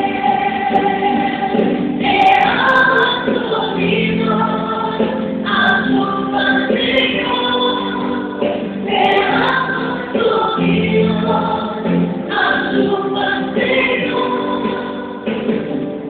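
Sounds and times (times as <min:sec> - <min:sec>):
muffled choir singing gospel: 0:00.0 - 0:16.0.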